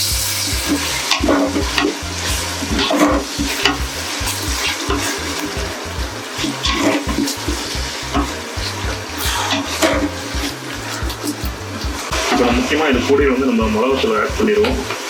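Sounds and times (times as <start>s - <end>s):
food sizzling in oil: 0.0s - 13.1s.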